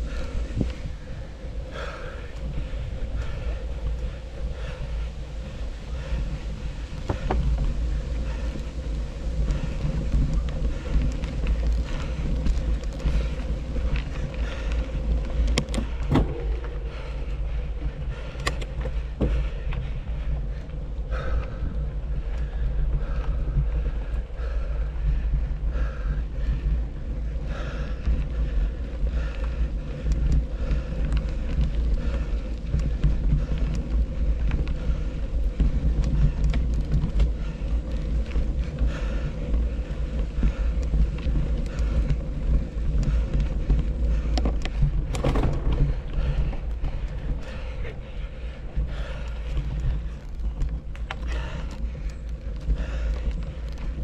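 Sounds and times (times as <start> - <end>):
bike clicks and rattles: 0.0 - 54.0
tyres rumbling over ground: 0.0 - 54.0
wind buffeting microphone: 0.0 - 54.0.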